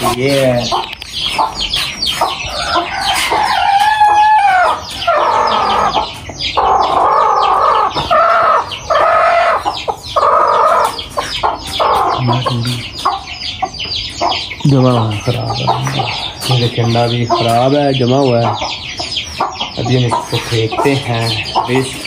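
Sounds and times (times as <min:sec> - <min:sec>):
chickens clucking: 0:00.0 - 0:22.0
hen squawking: 0:00.0 - 0:22.0.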